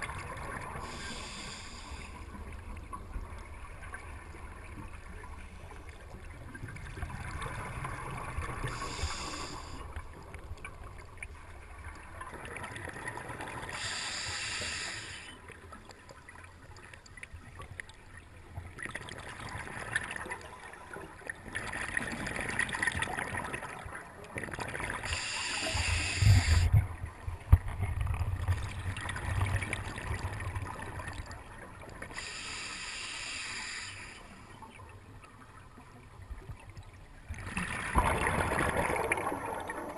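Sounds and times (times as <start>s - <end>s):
underwater exhaled bubbles: 0.0s - 39.9s.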